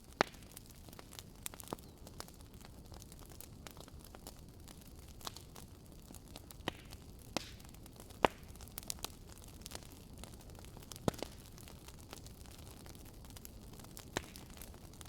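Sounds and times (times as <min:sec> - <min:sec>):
fire popping: 0:00.0 - 0:15.0
wood fire hissing: 0:00.0 - 0:15.0.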